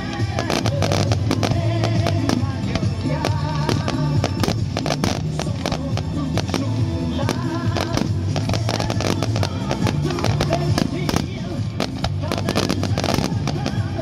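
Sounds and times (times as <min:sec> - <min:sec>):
fireworks bangs and crackles: 0:00.0 - 0:14.0
music with sustained notes: 0:00.0 - 0:14.0.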